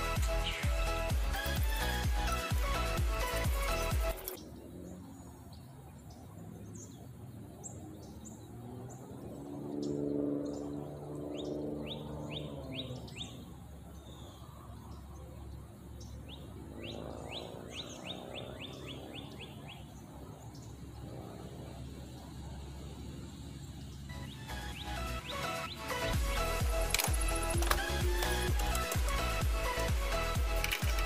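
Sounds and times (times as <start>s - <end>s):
outdoor background noise: 0.0s - 31.0s
songbirds chirping: 0.0s - 31.0s.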